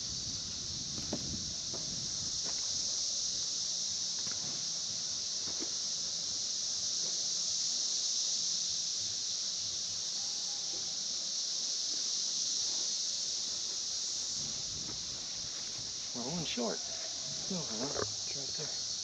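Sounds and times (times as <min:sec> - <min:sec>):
cicadas singing: 0:00.0 - 0:19.0.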